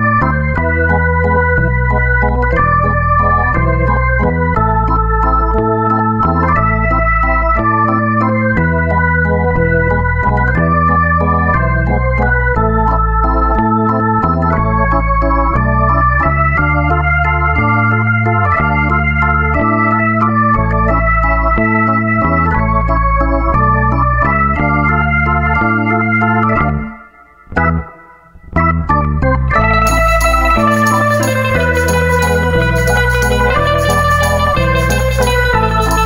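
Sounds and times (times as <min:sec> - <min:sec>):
held keyboard chords: 0:00.0 - 0:36.0
stepping bass line: 0:00.0 - 0:36.0.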